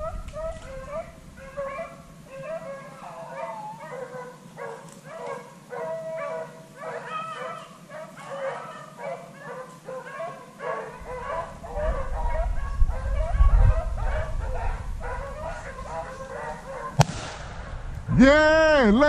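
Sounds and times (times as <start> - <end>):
beagles baying in chorus: 0.0 - 17.0.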